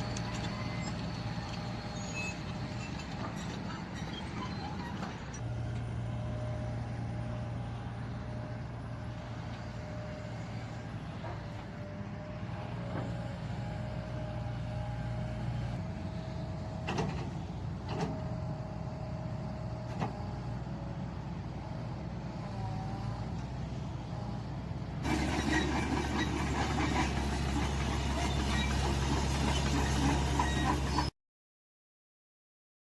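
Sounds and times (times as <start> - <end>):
excavator diesel engine running: 0.0 - 31.1.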